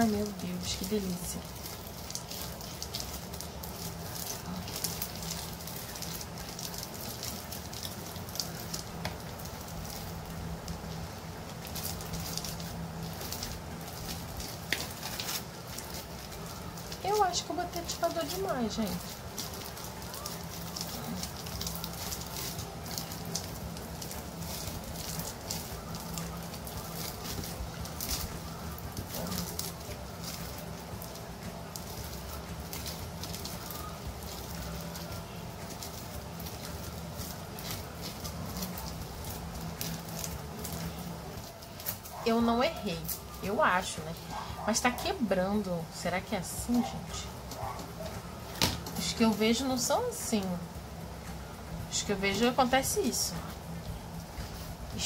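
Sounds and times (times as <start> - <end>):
slime crackling and popping: 0.0 - 55.0.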